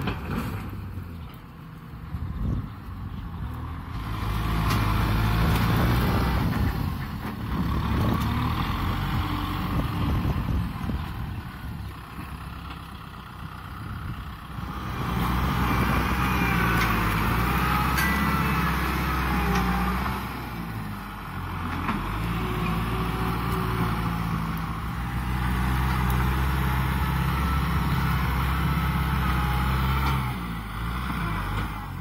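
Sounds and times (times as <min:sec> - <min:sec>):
tractor diesel engine under load: 0:00.0 - 0:32.0.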